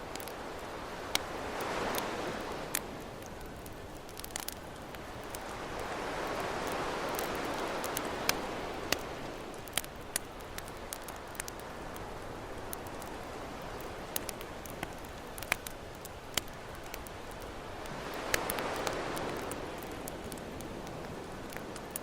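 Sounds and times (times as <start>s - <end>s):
campfire crackling and popping: 0.0s - 22.0s
ocean waves: 0.0s - 22.0s.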